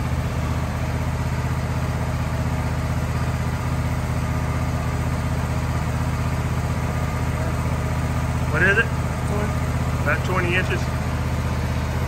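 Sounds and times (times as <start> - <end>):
gasoline engine idling: 0.0 - 12.0.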